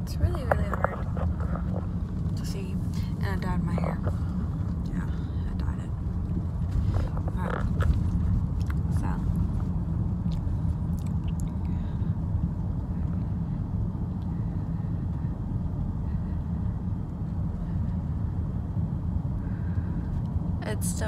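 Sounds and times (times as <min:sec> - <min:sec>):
car rumble inside cabin: 0:00.0 - 0:21.0.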